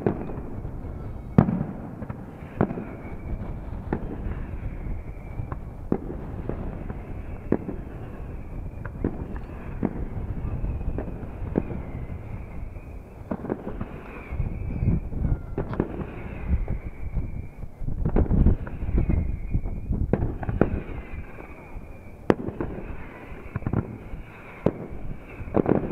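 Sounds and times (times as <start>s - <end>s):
firework bangs: 0.0s - 25.9s.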